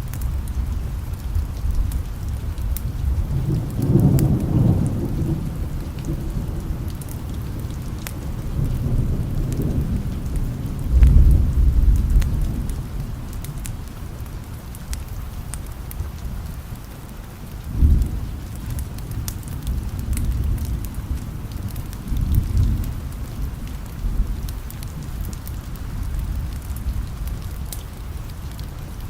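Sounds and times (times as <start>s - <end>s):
thunder rumbling: 0.0s - 15.1s, 17.6s - 29.0s
steady rain: 0.0s - 29.0s.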